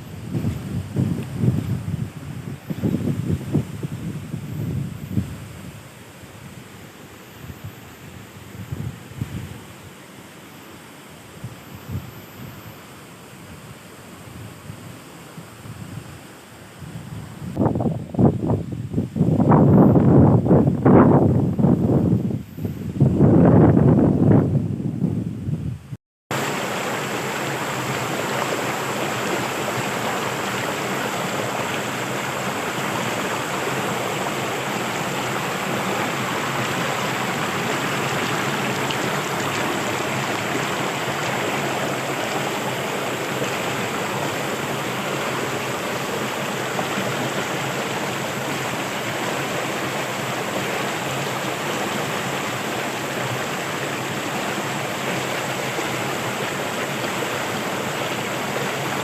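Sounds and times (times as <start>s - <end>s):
flowing water rushing: 0.0s - 18.6s, 26.3s - 59.0s.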